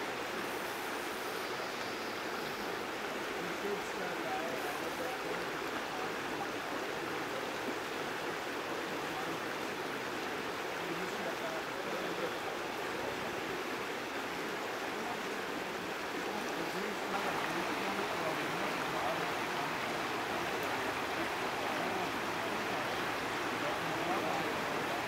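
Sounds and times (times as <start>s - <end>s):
river current rushing: 0.0s - 25.0s.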